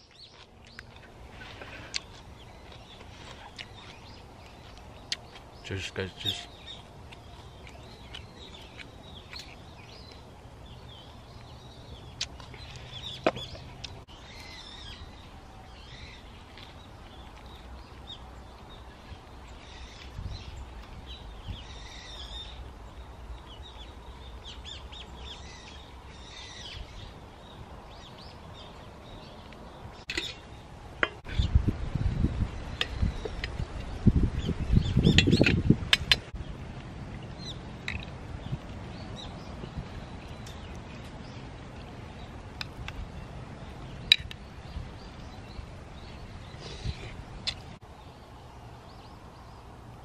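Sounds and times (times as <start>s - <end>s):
birds calling: 0.0s - 31.6s, 32.4s - 50.0s.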